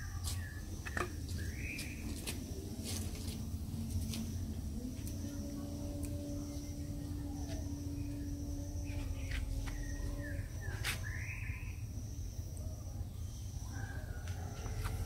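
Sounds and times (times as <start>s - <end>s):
birds chirping: 0.0s - 3.6s, 4.3s - 15.0s
steady low rumble: 0.0s - 15.0s.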